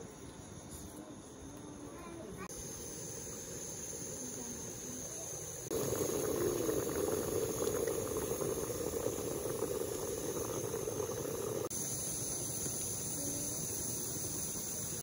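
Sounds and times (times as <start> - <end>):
stew bubbling in a pan: 2.5 - 15.0.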